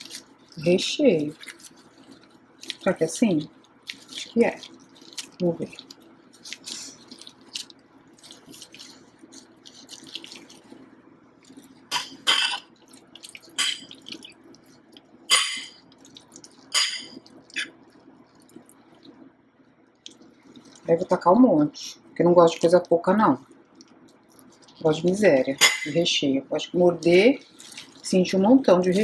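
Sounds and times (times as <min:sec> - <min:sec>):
hands working wet dough: 0:00.0 - 0:19.4, 0:20.0 - 0:29.0
faint steady hum: 0:00.0 - 0:29.0.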